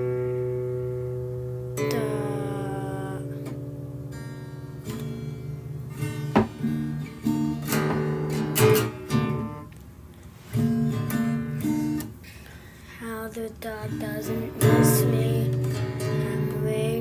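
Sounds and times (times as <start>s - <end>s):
acoustic guitar strumming chords: 0.0s - 9.8s, 10.4s - 17.0s.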